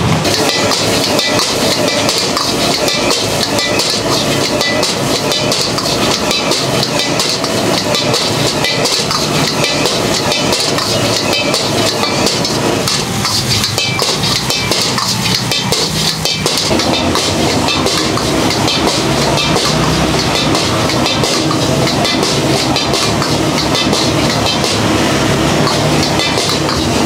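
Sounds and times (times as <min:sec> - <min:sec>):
gas burner rushing: 0:00.0 - 0:27.0
rice sizzling: 0:00.0 - 0:27.0
metal ladle scraping wok: 0:00.2 - 0:27.0.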